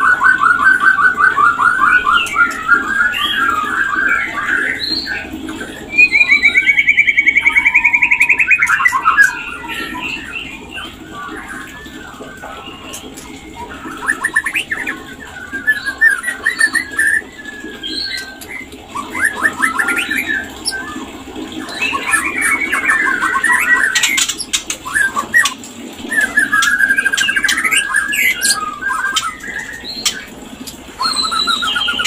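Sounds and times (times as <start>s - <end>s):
bird chattering calls: 0.0s - 32.0s.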